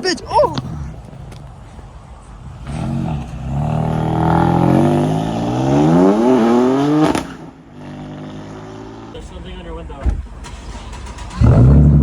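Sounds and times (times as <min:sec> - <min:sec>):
car engine accelerating hard: 0:00.0 - 0:09.2, 0:10.2 - 0:12.0.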